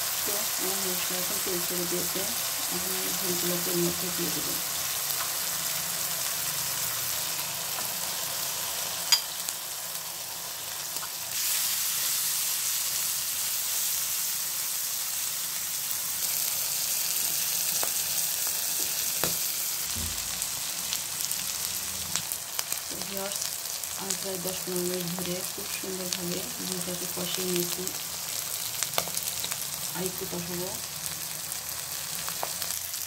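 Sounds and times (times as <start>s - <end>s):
oil sizzling: 0.0s - 33.0s.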